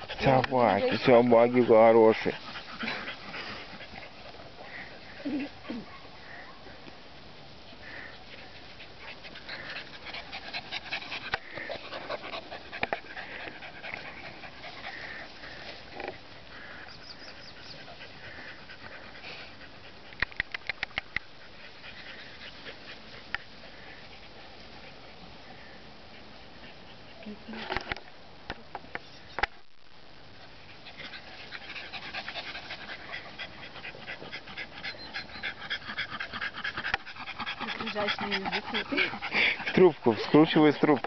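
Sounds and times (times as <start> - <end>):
dogs panting and sniffing: 0.0 - 28.8, 30.2 - 41.0.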